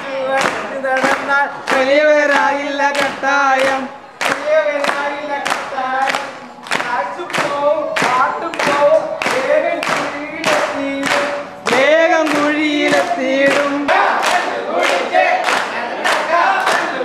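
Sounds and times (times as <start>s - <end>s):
group singing: 0.0s - 17.0s
people clapping in time: 0.0s - 17.0s.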